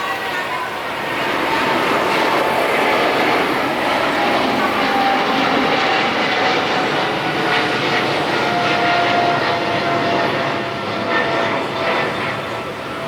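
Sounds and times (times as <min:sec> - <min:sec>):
jet engine rush with whine: 0:00.0 - 0:13.0.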